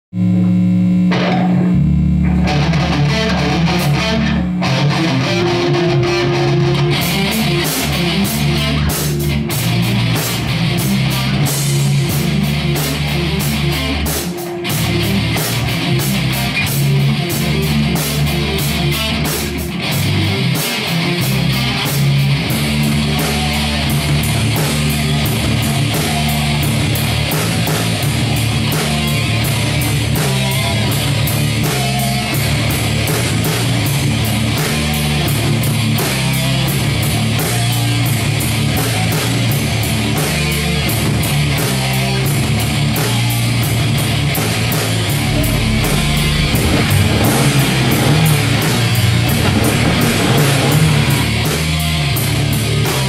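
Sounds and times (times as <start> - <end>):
bass guitar: 0.1 - 53.0
electric guitar riffs: 0.2 - 53.0
fast driving drum hits: 1.1 - 53.0.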